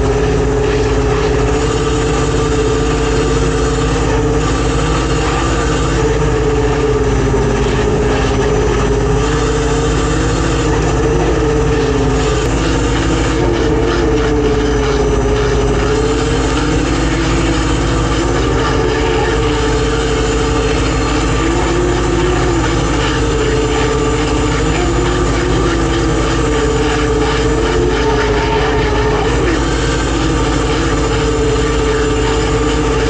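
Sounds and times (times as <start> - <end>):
boat engine running: 0.0 - 33.0
wavering engine whine: 0.0 - 33.0.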